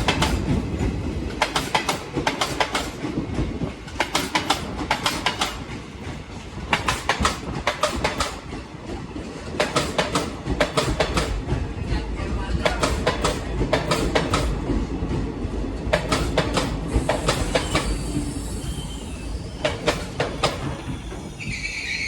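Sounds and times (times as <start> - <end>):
low train rumble: 0.0 - 22.0
train wheels clattering over joints: 0.0 - 22.0.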